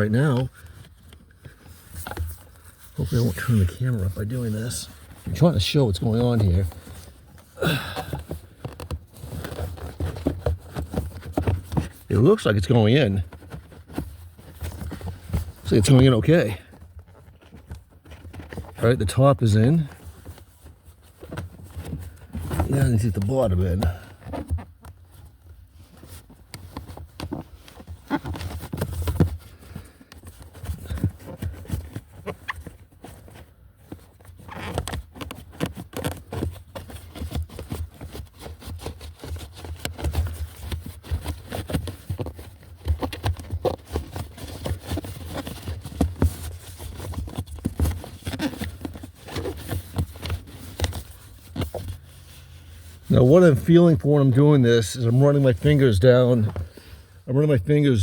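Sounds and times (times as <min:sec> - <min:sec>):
air filter rustling and scraping: 0:00.0 - 0:58.0.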